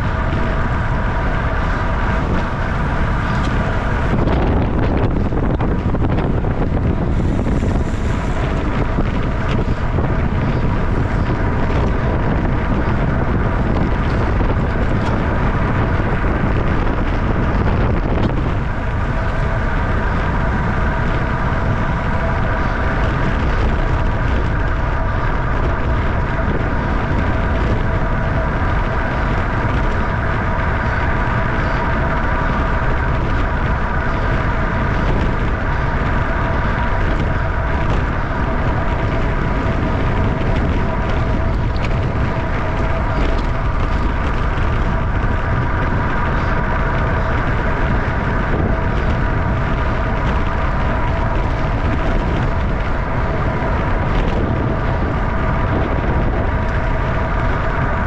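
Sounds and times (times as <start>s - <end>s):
steady high whine: 0.0s - 58.0s
wind rushing over microphone: 0.0s - 58.0s.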